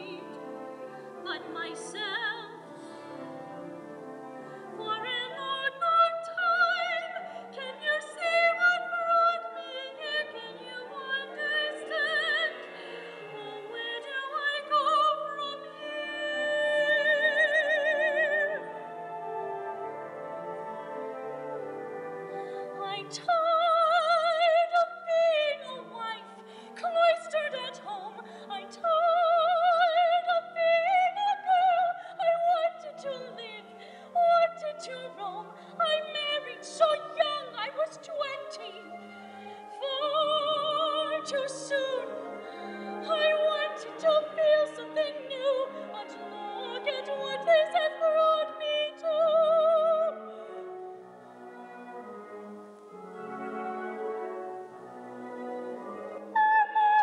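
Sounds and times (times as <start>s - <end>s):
soft instrumental accompaniment: 0.0s - 57.0s
soprano singing opera: 0.0s - 57.0s.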